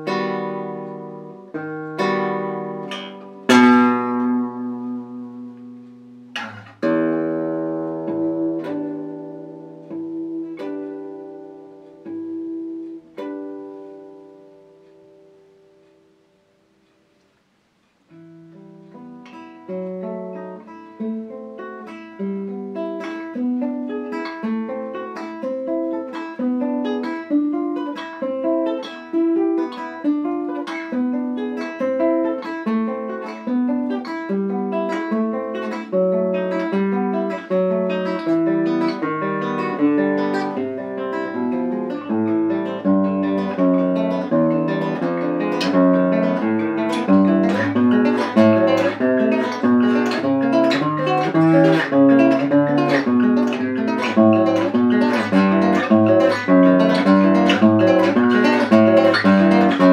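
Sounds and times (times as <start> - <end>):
classical guitar fingerpicking: 0.0 - 59.9.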